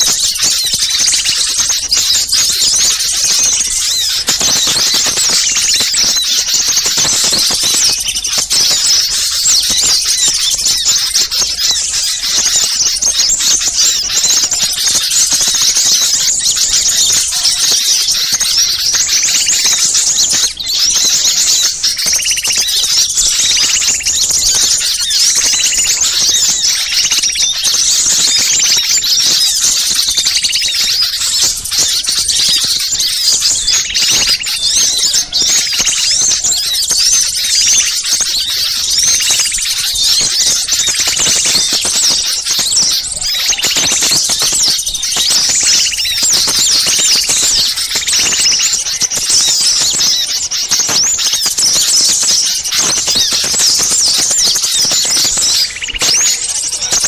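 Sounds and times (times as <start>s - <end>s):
lower repeated bird notes: 0.0s - 57.0s
songbirds chattering: 0.0s - 57.0s.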